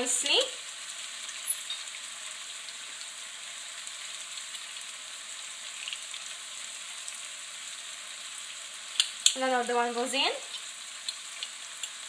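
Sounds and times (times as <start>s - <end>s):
onion sizzling in pan: 0.0s - 12.0s.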